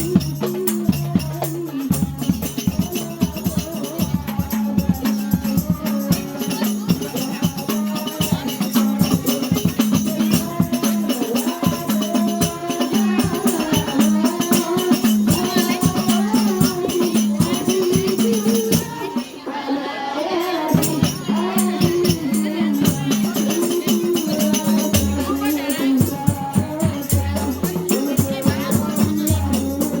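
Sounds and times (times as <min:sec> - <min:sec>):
frame drums beating: 0:00.0 - 0:19.5, 0:20.6 - 0:30.0
jingling percussion: 0:00.0 - 0:30.0
voices singing: 0:00.0 - 0:30.0.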